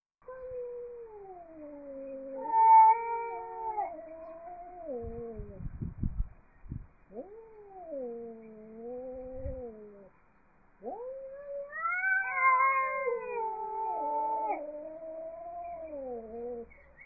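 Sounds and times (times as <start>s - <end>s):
cat yowling: 0.2s - 5.6s, 7.1s - 10.1s, 10.8s - 16.8s.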